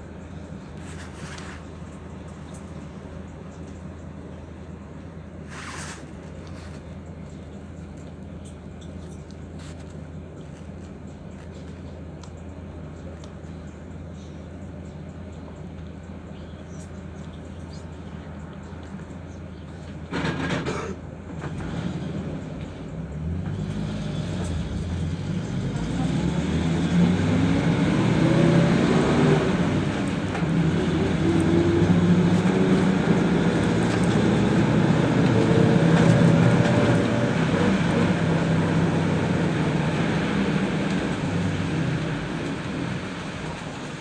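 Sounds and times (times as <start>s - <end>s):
bus engine accelerating: 0.0s - 44.0s.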